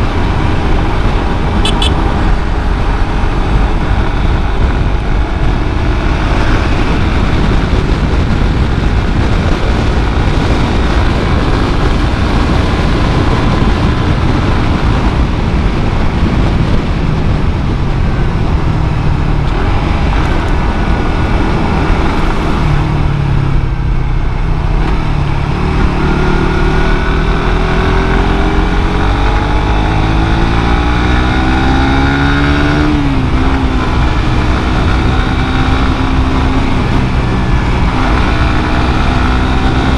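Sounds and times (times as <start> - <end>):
motorcycle engine while riding: 0.0 - 39.9
road noise: 0.0 - 39.9
wind noise: 0.0 - 39.9.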